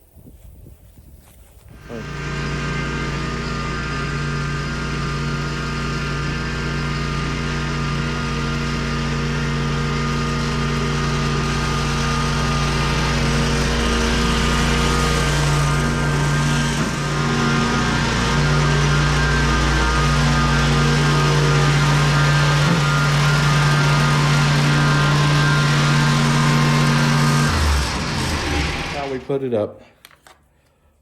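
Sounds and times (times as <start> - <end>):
gas engine running: 1.8 - 29.4.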